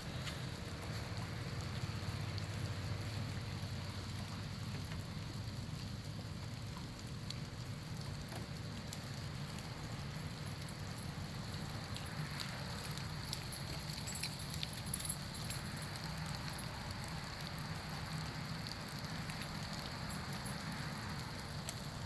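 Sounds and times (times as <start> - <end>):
light ticks and patters: 0.0 - 22.0
low outdoor rumble: 0.0 - 22.0.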